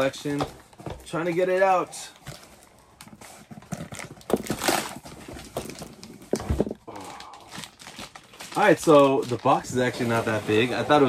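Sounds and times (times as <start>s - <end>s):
plastic bag crinkling: 1.5s - 10.6s.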